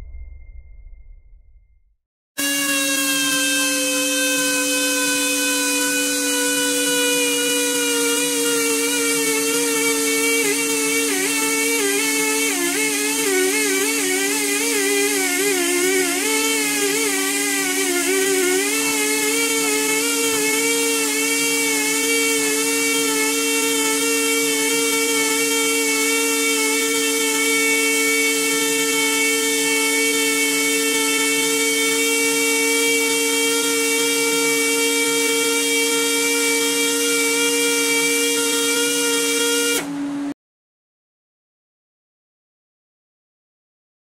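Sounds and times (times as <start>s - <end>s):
grooving tool motor whining: 2.4s - 40.1s.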